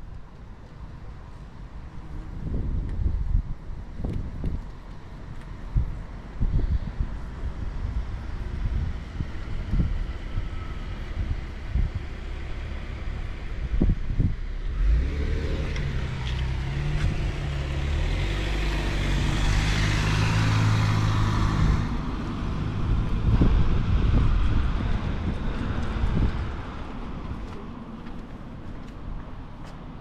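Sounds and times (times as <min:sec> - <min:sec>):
wind buffeting microphone: 0:02.0 - 0:30.0
car engine hum: 0:05.0 - 0:30.0.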